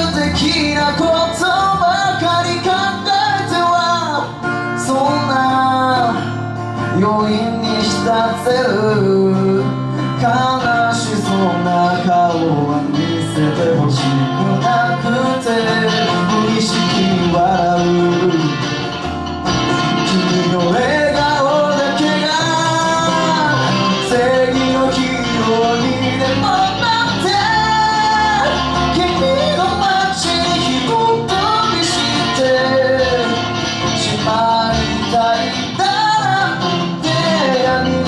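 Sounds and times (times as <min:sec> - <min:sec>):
man singing: 0:00.0 - 0:19.0, 0:19.7 - 0:38.0
electric guitars playing: 0:00.0 - 0:38.0
strummed acoustic guitar: 0:00.0 - 0:38.0.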